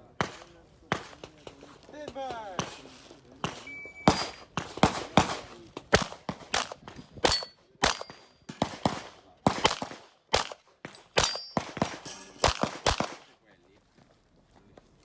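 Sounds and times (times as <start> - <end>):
rapid handgun shots: 0.0 - 13.4.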